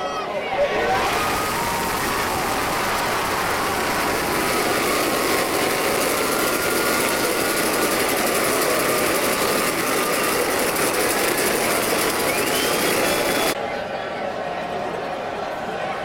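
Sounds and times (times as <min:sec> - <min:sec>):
stadium crowd cheering: 0:00.0 - 0:16.0.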